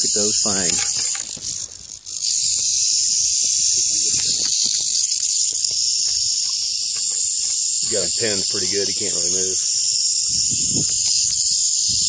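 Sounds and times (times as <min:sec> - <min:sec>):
rattlesnake rattling: 0:00.0 - 0:12.0.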